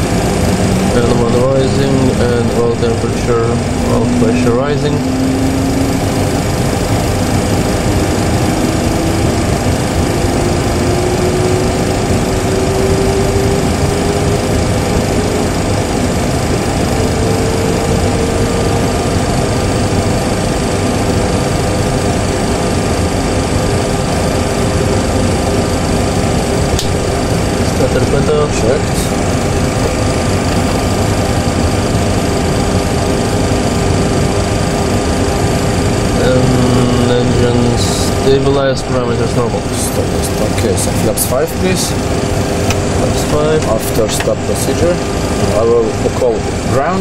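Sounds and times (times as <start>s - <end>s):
jet engine idling rush: 0.0s - 47.0s
jet engine spooling up whine: 0.0s - 47.0s.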